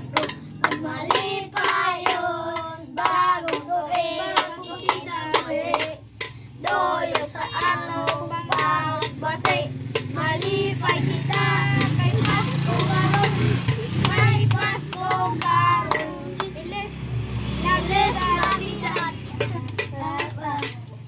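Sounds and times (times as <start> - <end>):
hand claps: 0.0 - 16.7, 17.7 - 21.0
children singing a carol: 0.0 - 17.0, 17.6 - 20.9.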